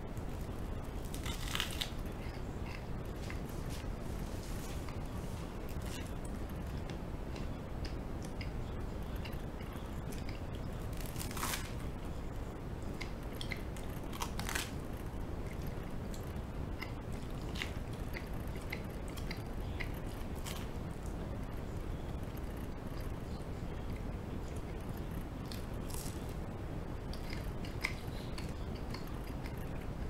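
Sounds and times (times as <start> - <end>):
toast crunching while chewed: 0.2 - 12.2, 12.8 - 21.2, 22.2 - 26.4.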